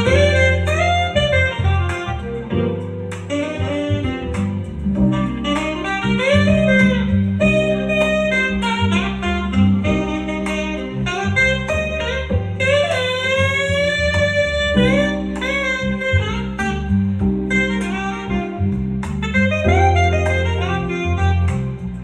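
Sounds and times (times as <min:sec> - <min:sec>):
bass: 0:00.0 - 0:22.0
saxophone melody: 0:00.0 - 0:22.0.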